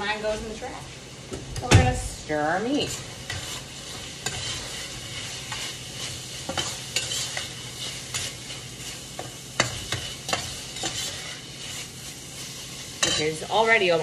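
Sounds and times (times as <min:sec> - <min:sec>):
beef sizzling in a pan: 0:00.0 - 0:14.0
utensil scraping against pan: 0:02.6 - 0:14.0.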